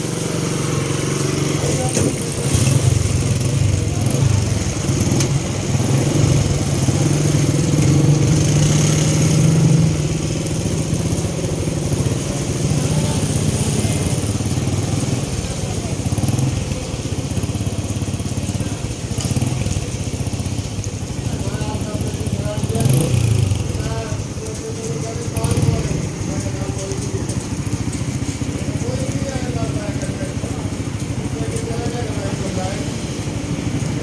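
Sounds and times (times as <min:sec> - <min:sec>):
engine humming: 0:00.0 - 0:34.0
heavy rain hissing: 0:00.0 - 0:34.0.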